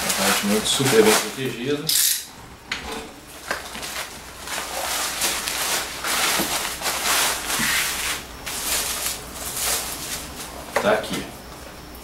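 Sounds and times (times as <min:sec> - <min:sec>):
plastic wrap rustling and crinkling: 0:00.0 - 0:01.9, 0:03.3 - 0:11.0.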